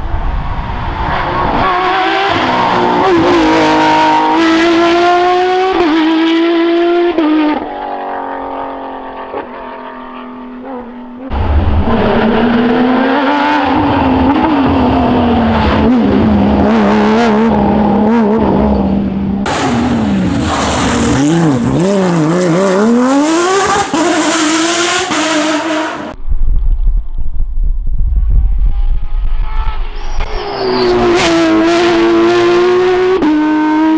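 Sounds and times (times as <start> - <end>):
rally car engines revving: 0.1 - 26.2, 29.5 - 33.9.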